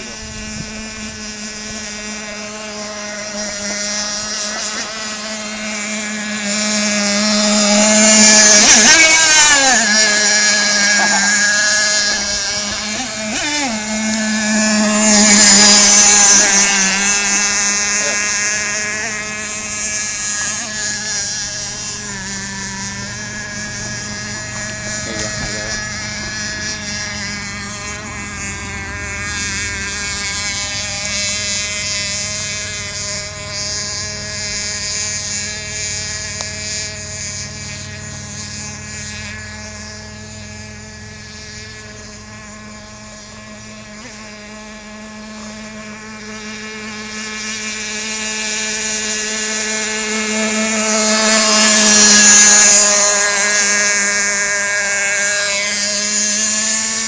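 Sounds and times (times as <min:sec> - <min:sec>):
model boat engine whine: 0:00.0 - 0:57.0.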